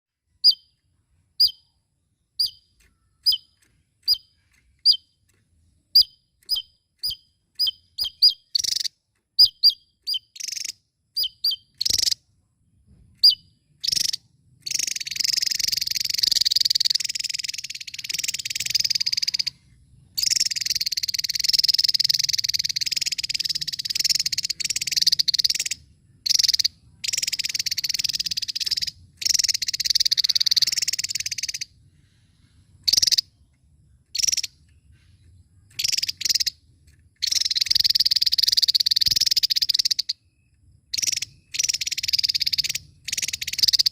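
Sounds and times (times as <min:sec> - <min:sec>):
bird calling with sharp notes: 0:00.3 - 0:12.3, 0:13.2 - 0:43.9
rapid high chattering birdsong: 0:00.3 - 0:43.9.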